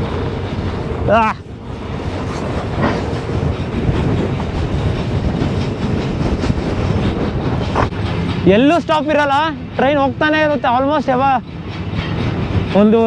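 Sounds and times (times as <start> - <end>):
wind buffeting microphone: 0.0 - 10.6
freight train rumbling and clattering: 0.0 - 13.0.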